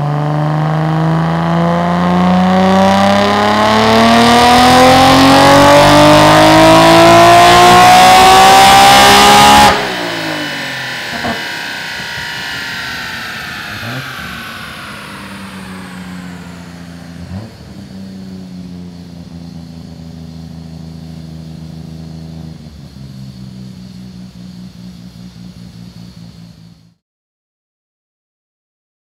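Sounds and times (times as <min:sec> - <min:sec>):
car engine idling with revs: 0:00.0 - 0:27.0
dyno rollers whine winding down: 0:00.0 - 0:27.0.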